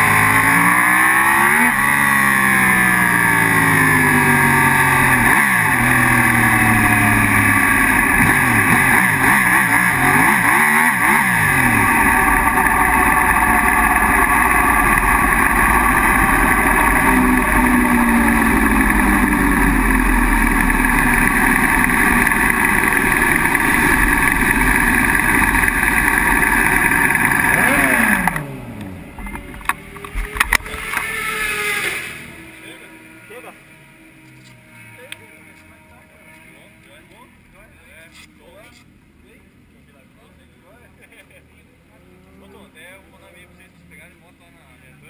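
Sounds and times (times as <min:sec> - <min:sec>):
motorcycle engine revving down: 0:00.0 - 0:36.5.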